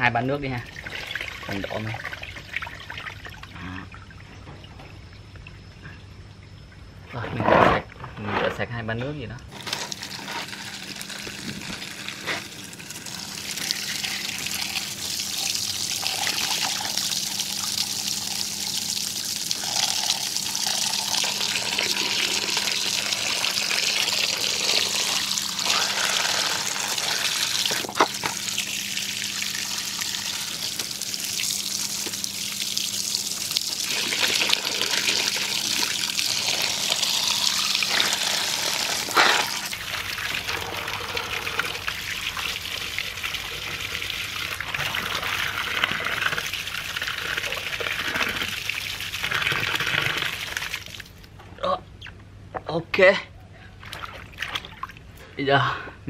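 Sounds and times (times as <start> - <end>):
tap water running into basin: 0.0 - 5.7, 9.5 - 51.3.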